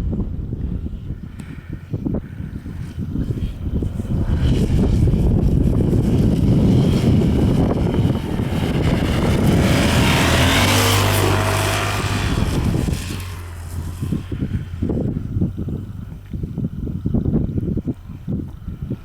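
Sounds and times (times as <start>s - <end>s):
motorcycle engine under load: 0.6s - 18.9s.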